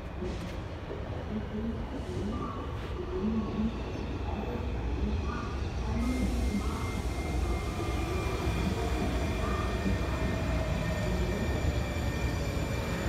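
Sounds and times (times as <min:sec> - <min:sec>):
train wheels rumbling on rails: 0:00.0 - 0:03.0, 0:03.8 - 0:13.0.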